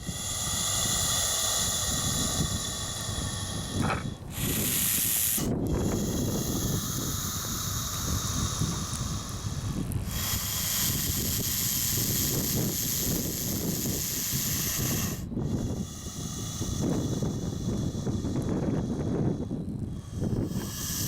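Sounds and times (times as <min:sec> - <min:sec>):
snake hissing: 0:00.0 - 0:21.0
wind rumble on microphone: 0:00.0 - 0:21.0.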